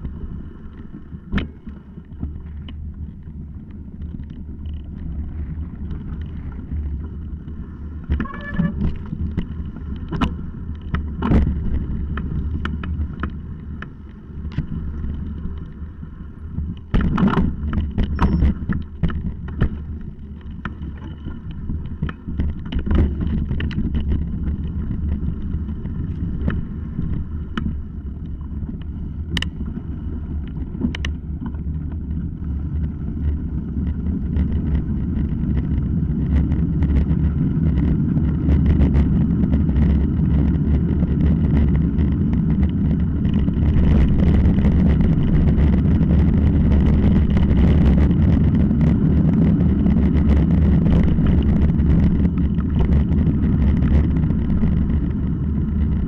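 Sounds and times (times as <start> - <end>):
bike rattling over rocks: 0.0 - 56.0
bike tyres rolling over gravel: 0.0 - 56.0.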